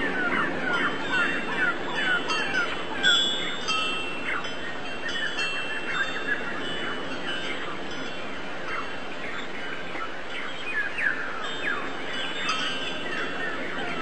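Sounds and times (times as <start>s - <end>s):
faint ringing chime tones: 0.0s - 14.0s
small birds chirping: 0.0s - 14.0s.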